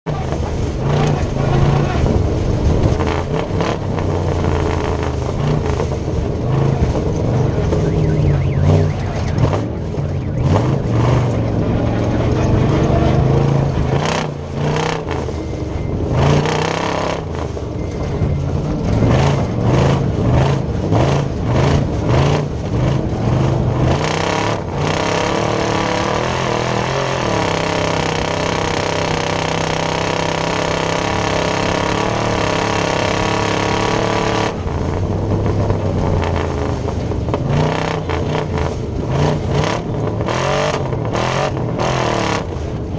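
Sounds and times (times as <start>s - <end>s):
race truck engine revving: 0.0s - 42.9s.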